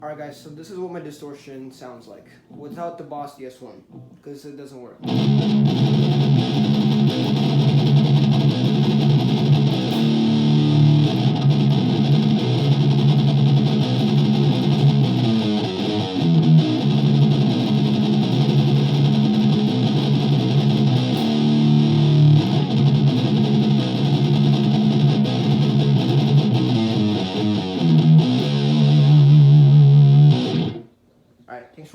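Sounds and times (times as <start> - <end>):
distorted electric guitar chords: 5.0 - 30.9.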